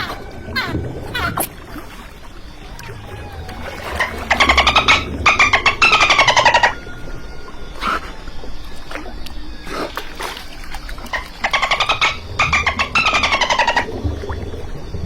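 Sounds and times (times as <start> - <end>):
dolphin buzzy pulsed squawks: 0.0 - 1.8, 2.6 - 14.1
steady low rumble: 0.0 - 15.0.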